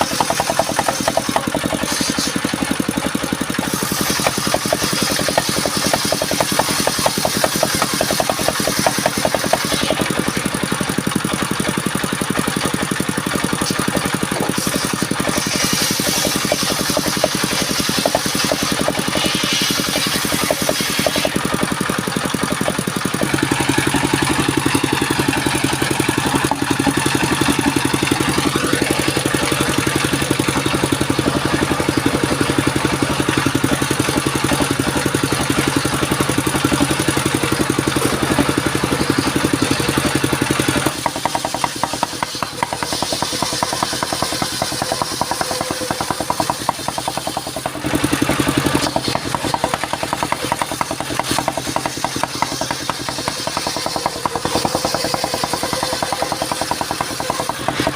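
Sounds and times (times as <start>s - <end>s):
engine driving a circular saw: 0.0s - 57.9s.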